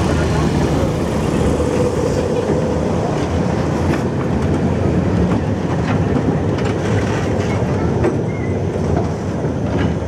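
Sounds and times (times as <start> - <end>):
tram wheels rumbling on rails: 0.0 - 10.0.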